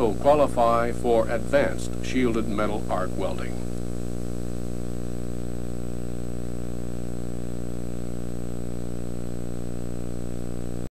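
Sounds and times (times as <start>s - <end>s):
low hum with overtones: 0.0s - 10.9s.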